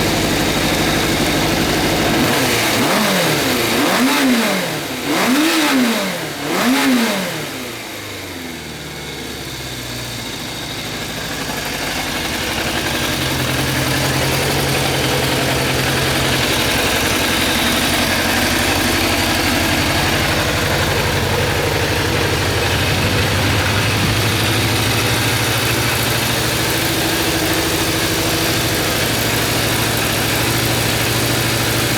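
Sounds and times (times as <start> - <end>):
motorcycle engine revving and idling: 0.0 - 31.9.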